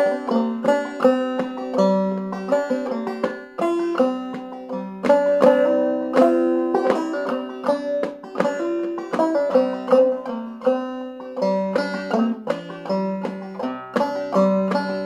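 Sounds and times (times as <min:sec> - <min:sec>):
banjo playing: 0:00.0 - 0:15.0.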